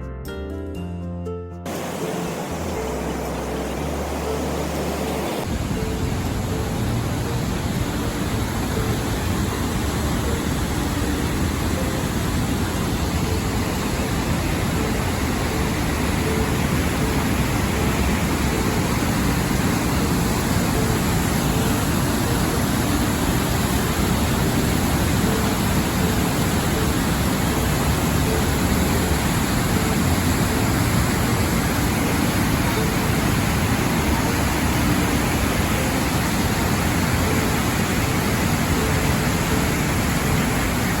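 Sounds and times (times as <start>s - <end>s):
waterfall rushing: 1.7s - 41.0s.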